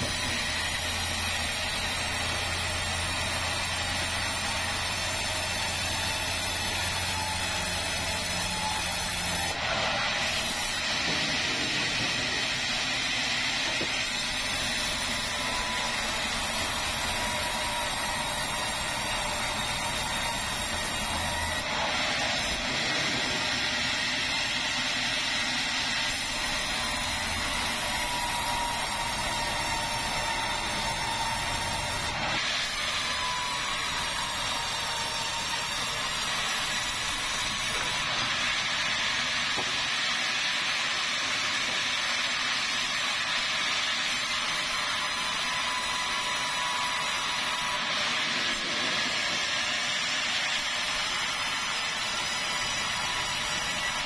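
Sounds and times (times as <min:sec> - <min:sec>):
band sawmill running: 0:00.0 - 0:54.0
saw blade whine: 0:00.0 - 0:54.0.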